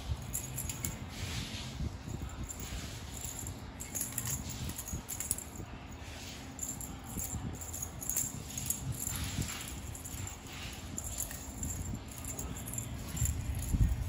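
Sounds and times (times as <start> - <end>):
cat toy rattling and jingling: 0.0 - 14.0.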